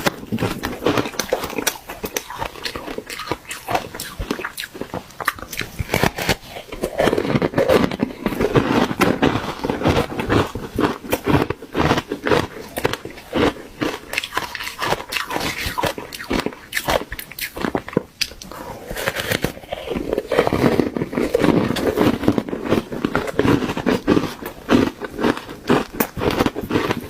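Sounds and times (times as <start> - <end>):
chewing crunching ice: 0.0 - 27.0.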